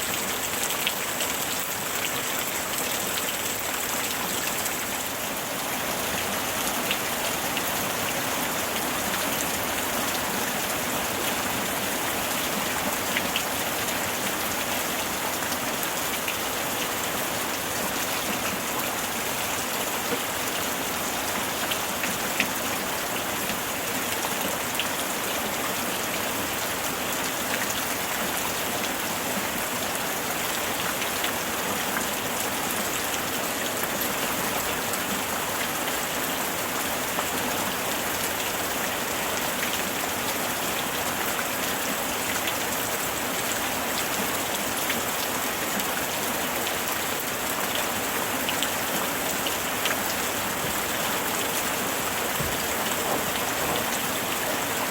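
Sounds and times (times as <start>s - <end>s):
rain falling: 0.0s - 54.9s
raindrops ticking on surfaces: 0.0s - 54.9s.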